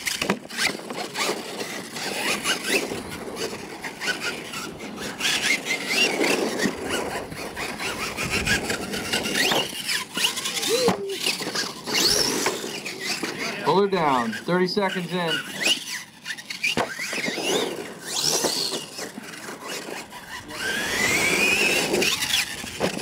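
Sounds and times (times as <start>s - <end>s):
toy truck motor whining: 0.0s - 23.0s
tyres scrabbling on dirt: 0.0s - 23.0s.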